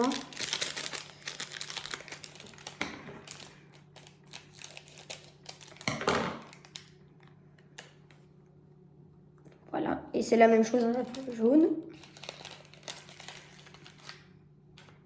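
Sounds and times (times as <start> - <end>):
plastic spoon and sachet crinkling: 0.0 - 8.2, 10.7 - 15.0.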